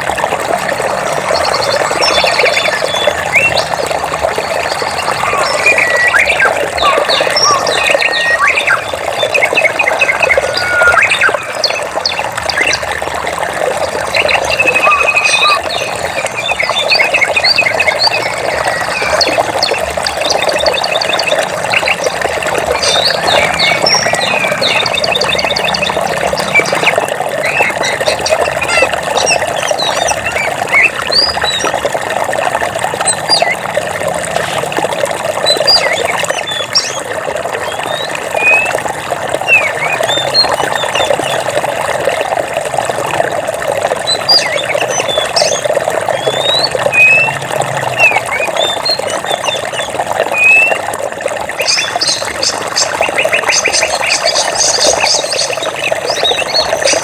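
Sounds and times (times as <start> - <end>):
running water: 0.0 - 57.0
birds chirping and trilling: 0.7 - 13.0, 13.6 - 31.9, 33.0 - 33.7, 35.3 - 41.6, 44.0 - 50.8, 51.5 - 57.0.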